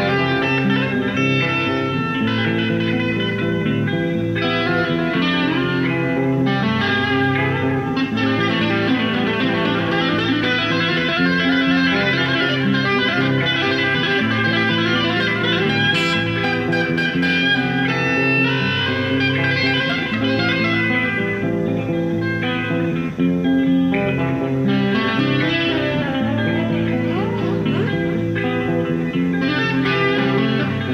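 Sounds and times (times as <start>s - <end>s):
instrumental music: 0.0s - 30.9s.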